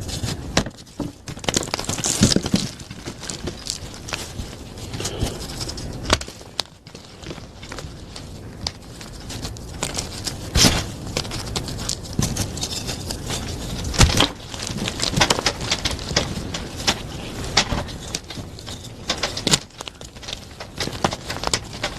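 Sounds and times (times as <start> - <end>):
chalk being crushed: 0.0 - 21.9.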